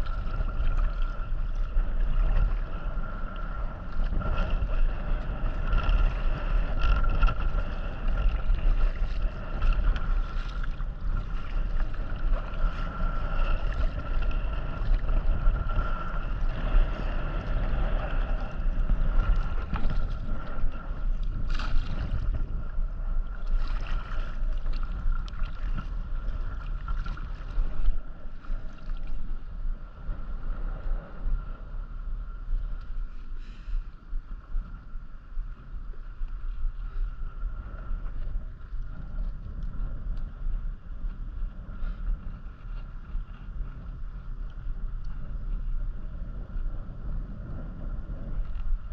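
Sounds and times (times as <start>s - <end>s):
water noise: 0.0s - 48.9s
wind buffeting microphone: 0.0s - 48.9s.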